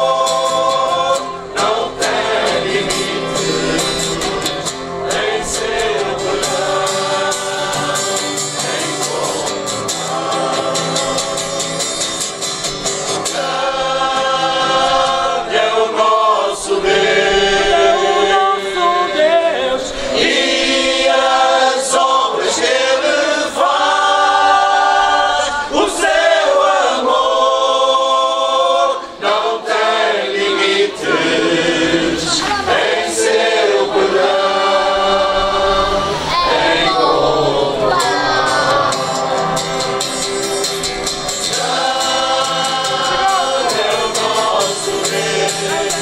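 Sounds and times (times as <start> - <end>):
men's choir singing: 0.0 - 46.0
strummed acoustic guitars: 0.0 - 46.0.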